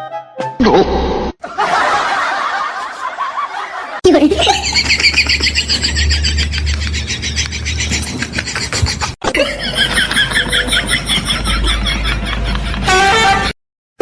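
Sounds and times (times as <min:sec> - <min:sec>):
people laughing: 0:01.4 - 0:12.9.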